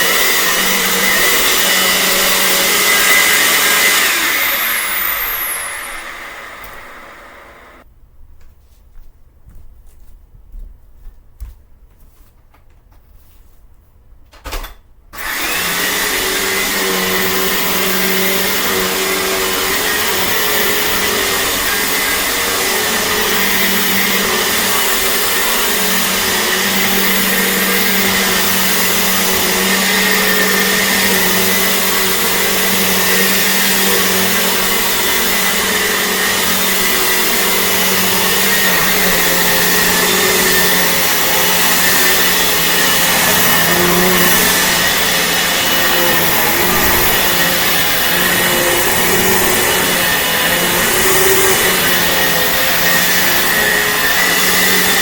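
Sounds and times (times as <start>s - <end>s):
vacuum cleaner humming and whining: 0.0s - 7.9s, 15.2s - 55.0s.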